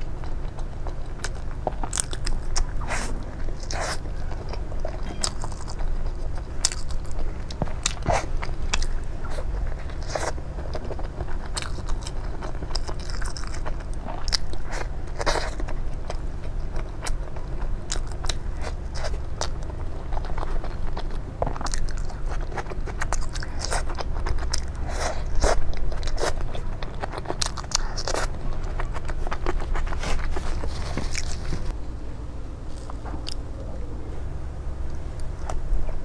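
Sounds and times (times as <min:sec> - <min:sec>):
crunchy chewing: 0:00.0 - 0:31.8, 0:32.6 - 0:33.9.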